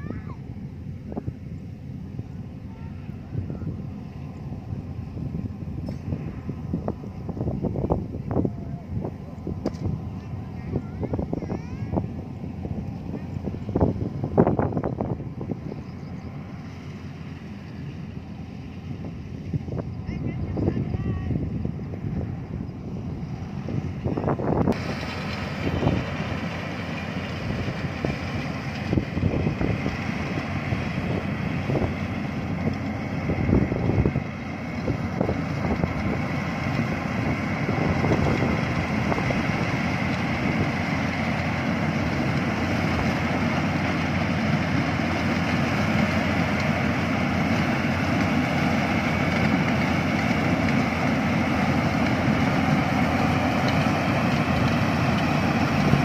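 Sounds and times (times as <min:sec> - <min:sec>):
combine harvester running: 0:00.0 - 0:56.0
wind buffeting microphone: 0:00.0 - 0:56.0.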